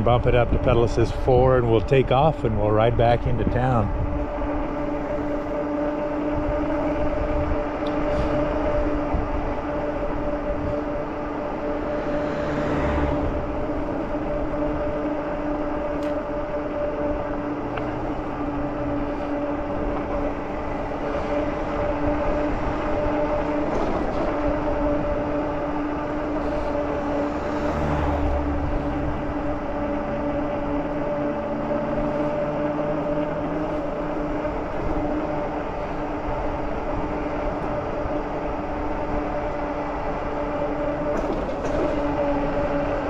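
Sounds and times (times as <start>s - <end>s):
e-bike motor and tyres humming: 0.0s - 43.0s
wind rushing on microphone: 0.0s - 43.0s.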